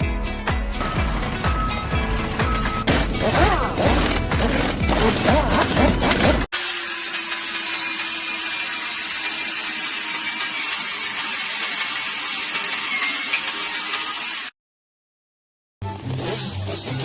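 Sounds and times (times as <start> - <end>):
machine whining steadily: 0.8 - 14.5.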